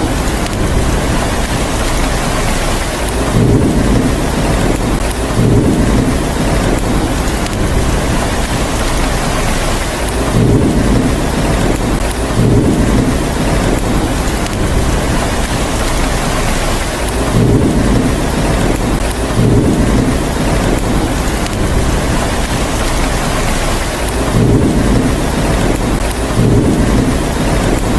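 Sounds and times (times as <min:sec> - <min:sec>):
heavy rain: 0:00.0 - 0:27.9
thunder rumbling: 0:00.0 - 0:27.9.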